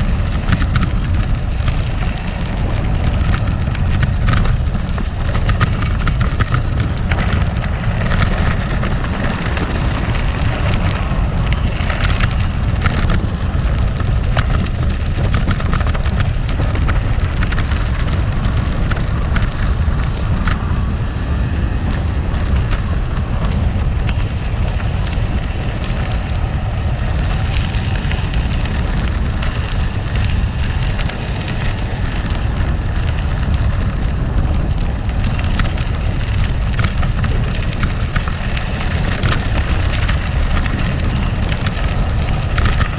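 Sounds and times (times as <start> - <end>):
bike tyres crunching on gravel: 0.0 - 42.9
stones and bike rattling: 0.0 - 42.9
wind rumble on microphone: 0.0 - 42.9.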